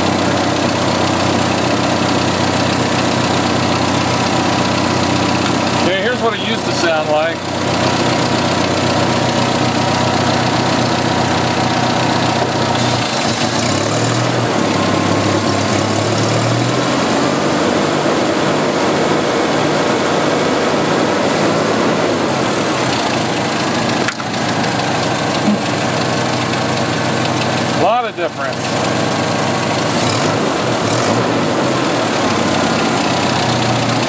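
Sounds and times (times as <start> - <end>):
rough fast engine idle: 0.0 - 16.4, 22.2 - 34.0.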